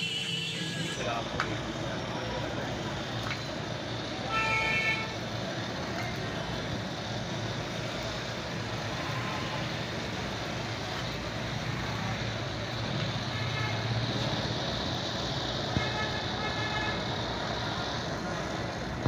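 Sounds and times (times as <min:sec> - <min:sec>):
street traffic rumbling: 0:00.0 - 0:19.0
gas blowtorch roaring: 0:00.1 - 0:19.0.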